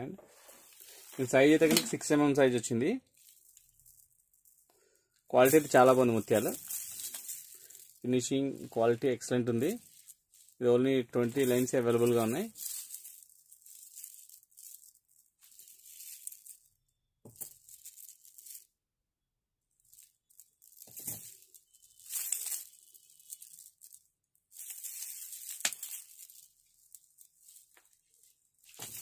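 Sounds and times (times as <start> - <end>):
beads rustling and clicking: 0.4 - 18.8, 19.7 - 29.0.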